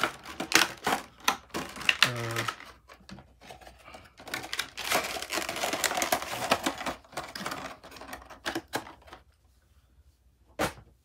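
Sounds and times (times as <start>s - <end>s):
packaging crinkling: 0.0s - 9.2s.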